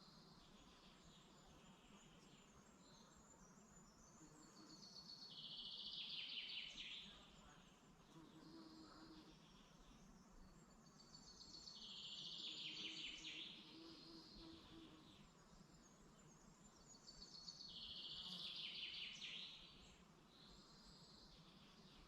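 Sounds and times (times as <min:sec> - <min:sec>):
soft bird chirps: 0:00.0 - 0:22.0.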